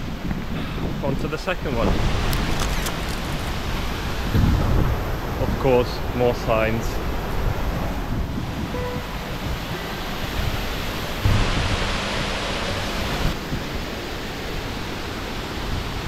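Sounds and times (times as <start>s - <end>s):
wind rumble on microphone: 0.0s - 16.0s
waterfall rushing: 1.8s - 16.0s.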